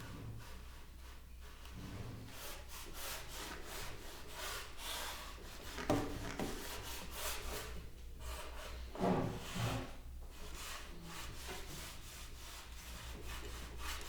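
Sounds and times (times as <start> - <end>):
tool scraping wooden cabinet: 1.8 - 14.0.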